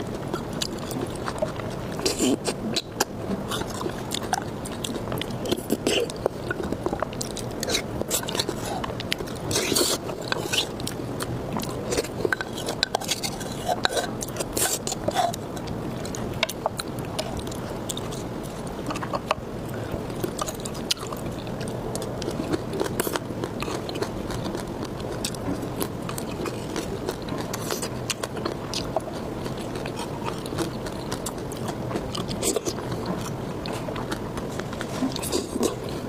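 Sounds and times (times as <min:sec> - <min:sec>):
chewing and biting food: 0:00.0 - 0:36.0.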